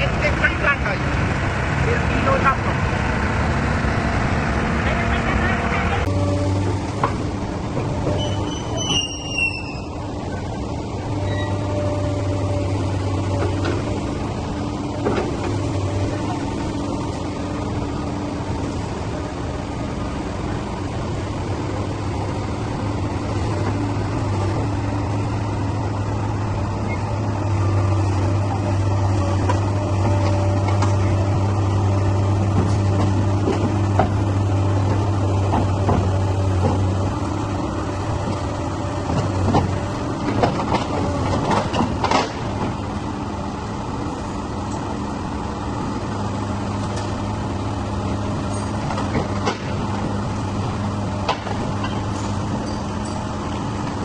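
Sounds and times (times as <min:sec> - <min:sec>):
heavy machine engine droning: 0:00.0 - 0:54.0.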